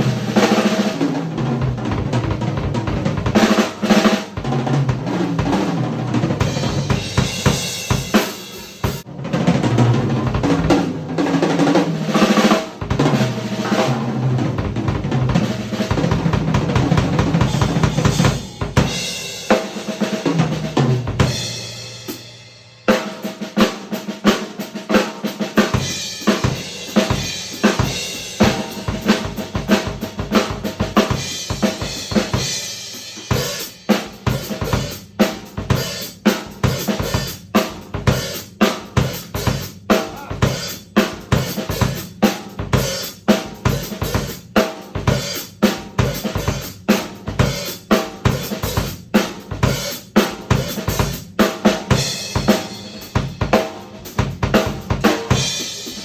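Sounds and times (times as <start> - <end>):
drum kit playing: 0.0 - 56.0.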